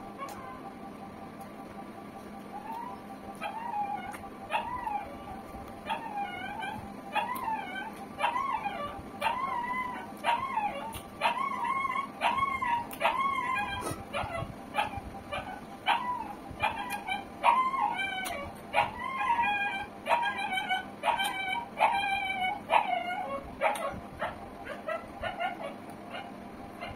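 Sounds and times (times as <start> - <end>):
dog whining and yelping: 0.1 - 0.8, 2.5 - 26.9.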